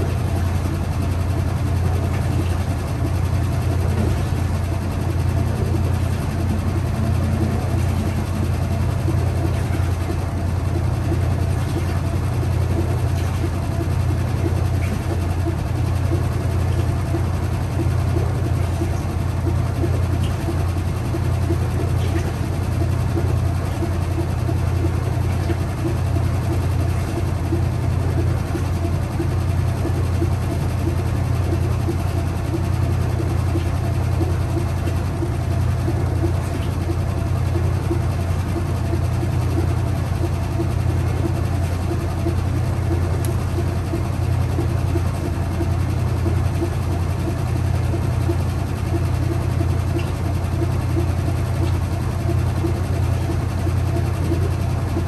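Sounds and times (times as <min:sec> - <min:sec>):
washing machine spinning hum: 0:00.0 - 0:55.0.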